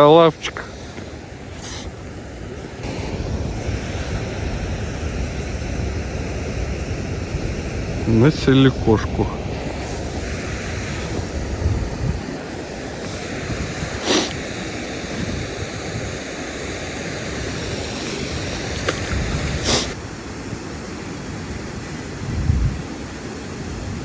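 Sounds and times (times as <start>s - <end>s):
wind on microphone: 0.0s - 21.1s, 21.7s - 24.0s
river water flowing: 0.0s - 22.2s.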